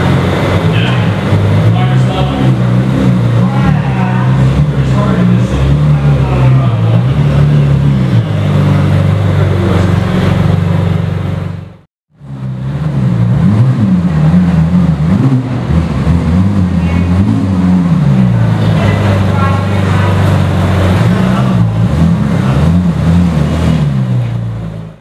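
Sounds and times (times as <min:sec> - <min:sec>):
car engine running at low revs: 0:00.0 - 0:25.0.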